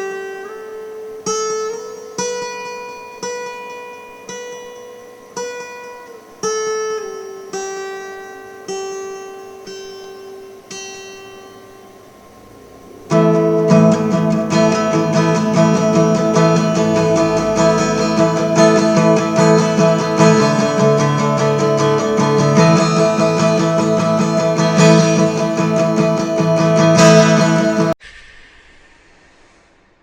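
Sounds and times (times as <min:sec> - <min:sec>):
strummed guitar chords: 0:00.0 - 0:28.0.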